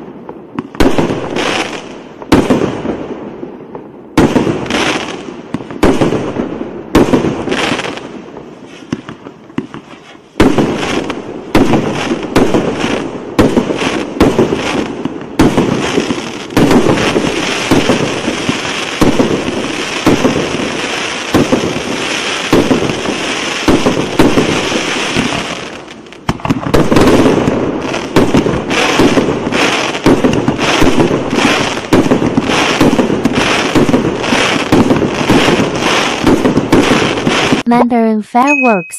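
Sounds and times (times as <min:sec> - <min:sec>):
firework launch shots and bursts: 0:00.0 - 0:37.8
firework sizzle: 0:04.1 - 0:37.8.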